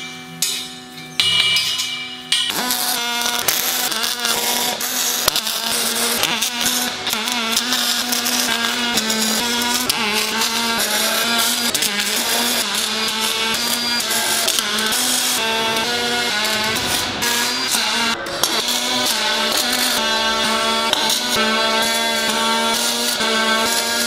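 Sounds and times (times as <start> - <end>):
welding arc buzzing and crackling: 0.0 - 24.0.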